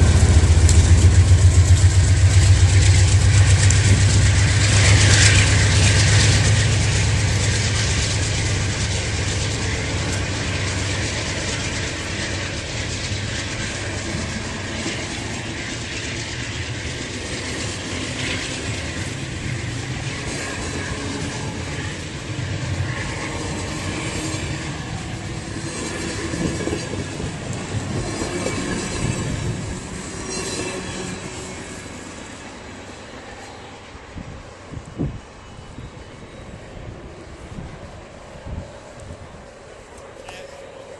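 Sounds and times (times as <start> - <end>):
passenger train rolling past: 0.0 - 40.9.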